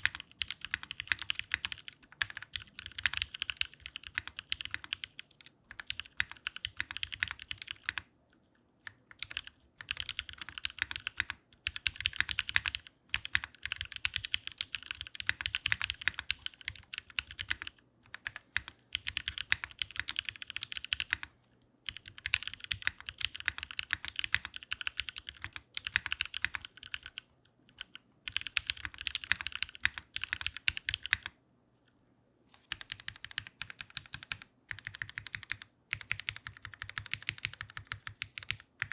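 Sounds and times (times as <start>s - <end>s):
fast mechanical keyboard typing: 0.0s - 8.1s, 8.9s - 21.3s, 21.9s - 27.2s, 27.8s - 31.3s, 32.7s - 38.9s.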